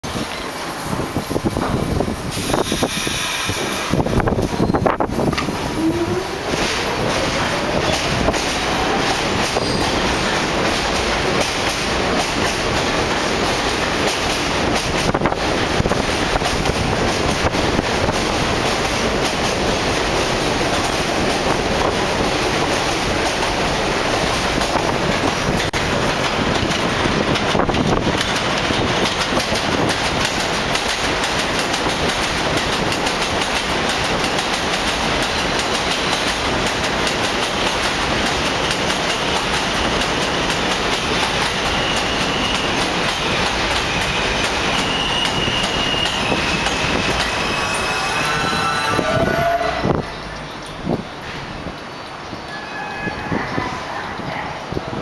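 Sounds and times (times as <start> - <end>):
subway train wheels on rail: 0.0 - 55.0.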